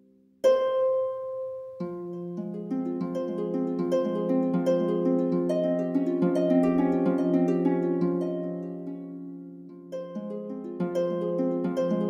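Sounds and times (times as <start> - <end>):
plucked string instrument music: 0.4 - 12.0.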